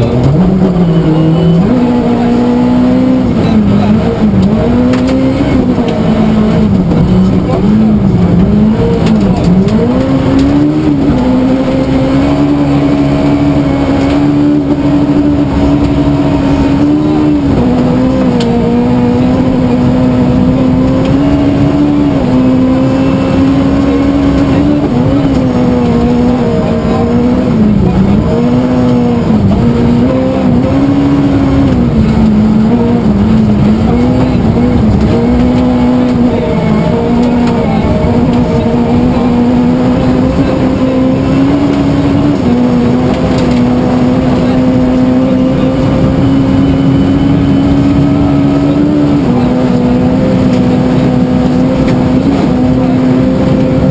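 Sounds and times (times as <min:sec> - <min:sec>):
rally car engine revving hard: 0:00.0 - 0:53.9.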